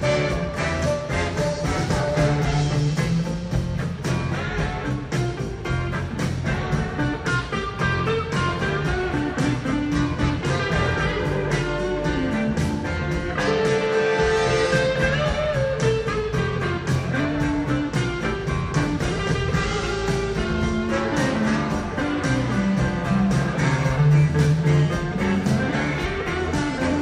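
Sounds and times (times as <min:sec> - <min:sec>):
blues-rock band playing: 0:00.0 - 0:27.0
electric guitar bending notes: 0:00.0 - 0:27.0.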